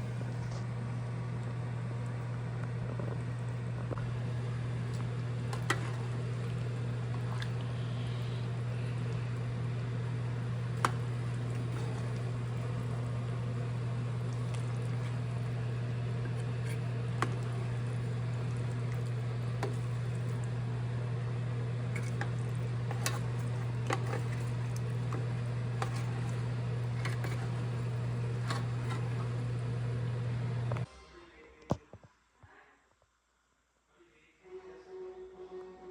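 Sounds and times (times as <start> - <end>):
low hum: 0.0 - 30.9.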